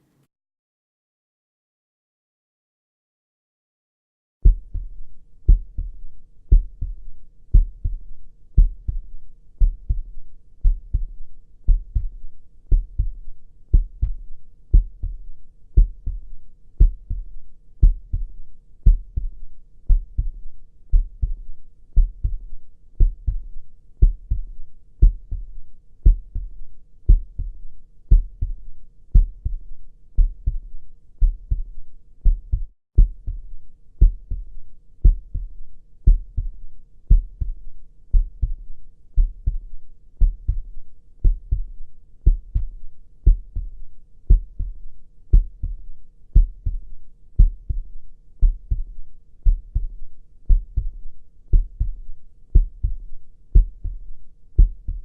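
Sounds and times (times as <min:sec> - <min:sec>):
human heartbeat thumps: 0:04.4 - 0:55.0.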